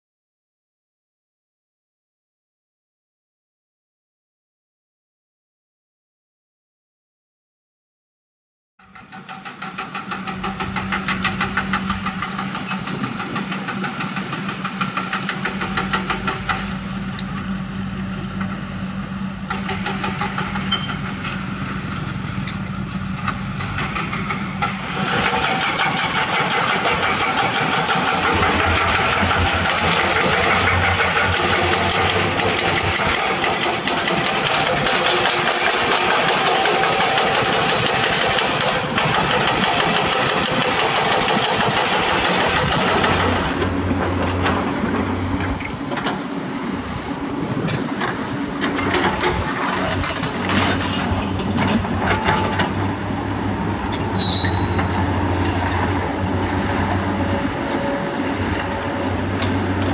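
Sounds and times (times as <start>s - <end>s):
diesel earthmoving machines droning: 8.8s - 59.9s.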